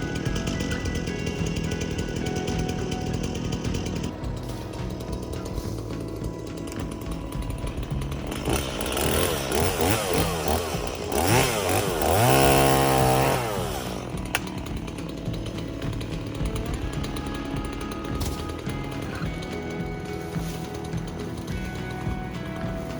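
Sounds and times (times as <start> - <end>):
background music: 0.0 - 22.9
chainsaw engine revving: 0.0 - 22.9.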